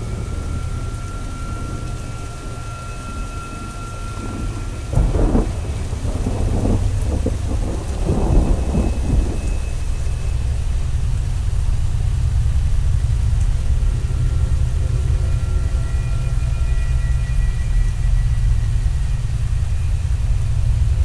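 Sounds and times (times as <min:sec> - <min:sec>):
rain: 0:00.0 - 0:21.0
thunder rumbling: 0:00.0 - 0:21.0.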